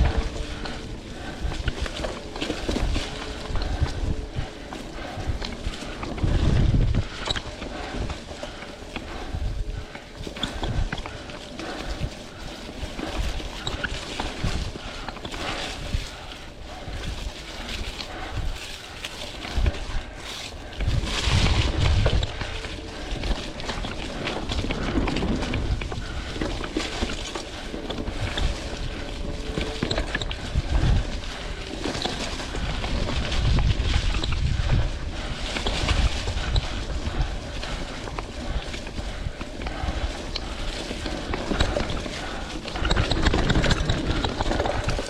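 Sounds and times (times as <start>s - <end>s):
bike frame rattling: 0.0s - 45.0s
tyres crunching on dirt: 0.0s - 45.0s
wind buffeting microphone: 0.0s - 45.0s.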